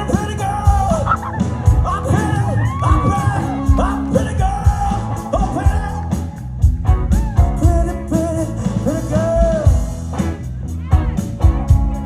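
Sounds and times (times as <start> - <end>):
person singing: 0.0 - 9.9
drums: 0.0 - 12.0
low bass line: 0.0 - 12.0
rock band playing live: 0.0 - 12.0.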